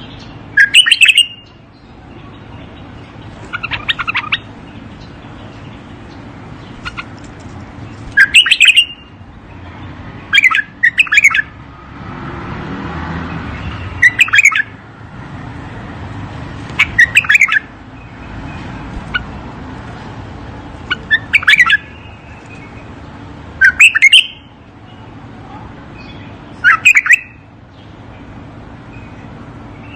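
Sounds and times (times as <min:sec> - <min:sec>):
bird singing: 0:00.0 - 0:11.7, 0:13.2 - 0:14.8, 0:16.8 - 0:19.5, 0:20.4 - 0:29.9
low background noise: 0:00.0 - 0:29.9.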